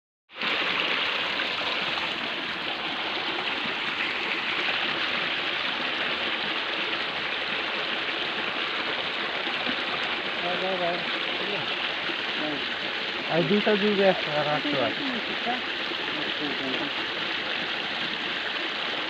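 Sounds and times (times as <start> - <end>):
stream water flowing: 0.3 - 19.0.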